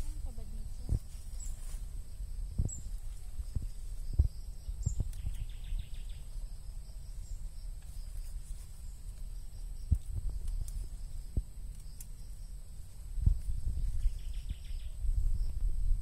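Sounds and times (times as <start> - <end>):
high insect whine: 0.0 - 16.0
low wind rumble on microphone: 0.0 - 16.0.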